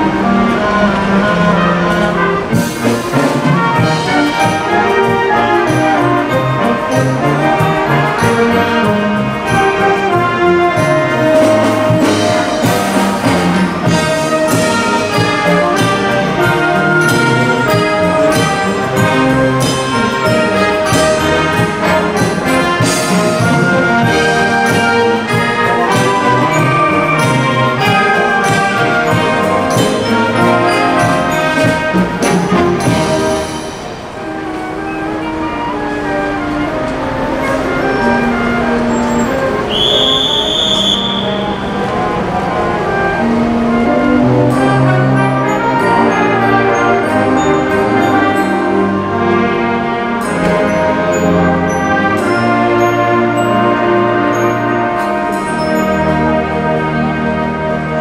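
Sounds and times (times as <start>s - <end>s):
concert band playing: 0.0s - 58.0s
percussion strokes: 0.0s - 58.0s.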